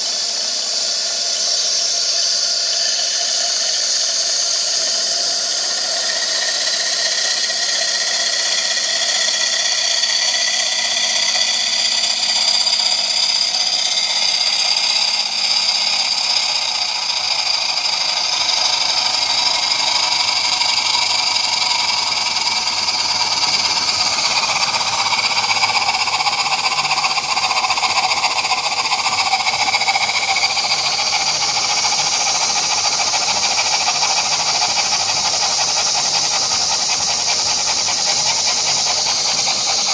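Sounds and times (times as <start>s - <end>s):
model steam engine hissing: 0.0s - 39.9s.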